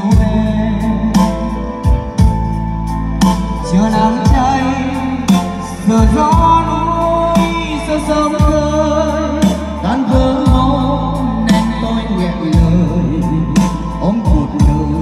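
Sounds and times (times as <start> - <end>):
deep bass notes: 0.0 - 15.0.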